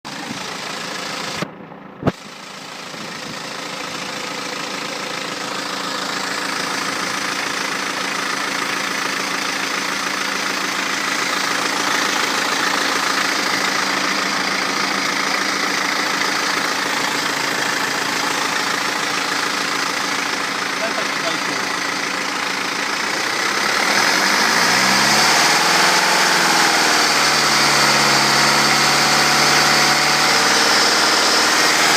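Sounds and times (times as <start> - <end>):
diesel engine running: 0.1 - 31.9.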